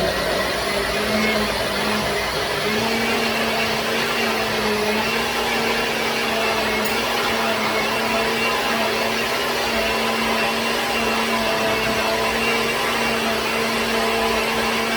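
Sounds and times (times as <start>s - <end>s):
electric blender running: 0.0s - 14.9s.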